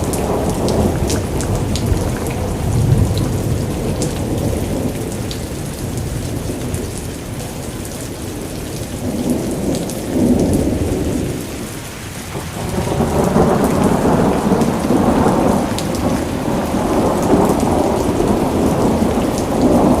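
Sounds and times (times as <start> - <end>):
rolling thunder: 0.0 - 20.0
steady rain: 0.0 - 20.0.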